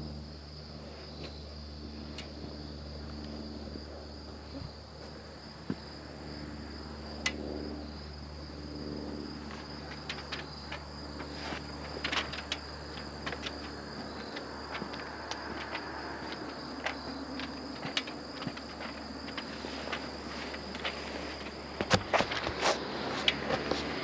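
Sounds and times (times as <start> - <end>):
insects chirring: 0.0 - 24.0
low steady hum: 0.0 - 24.0.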